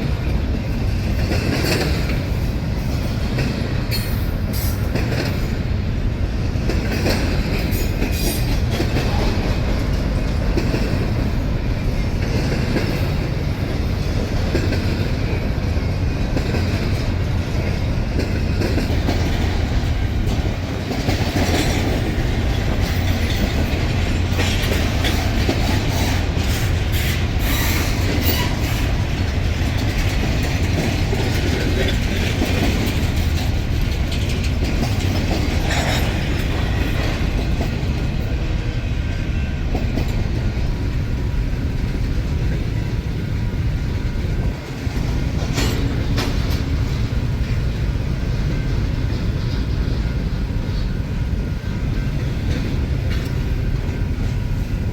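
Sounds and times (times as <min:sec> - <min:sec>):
train cars rumbling past: 0:00.0 - 0:54.9
wheels clicking over rail joints: 0:00.0 - 0:54.9.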